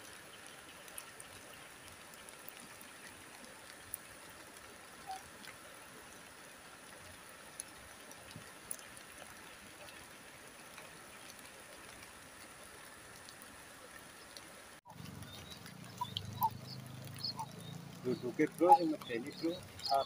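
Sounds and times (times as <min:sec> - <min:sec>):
light drizzle hissing: 0:00.0 - 0:20.0
raindrop ticks: 0:00.0 - 0:20.0.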